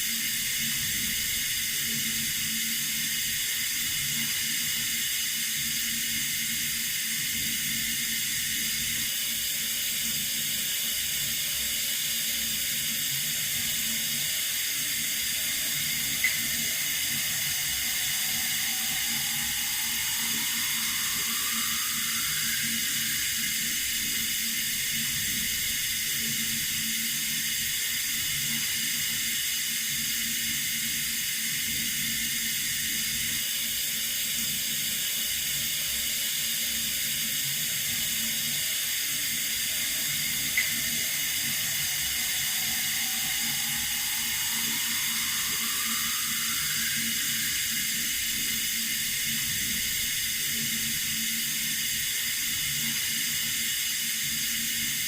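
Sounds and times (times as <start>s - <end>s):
water running from a tap: 0.0s - 33.2s, 36.3s - 55.0s.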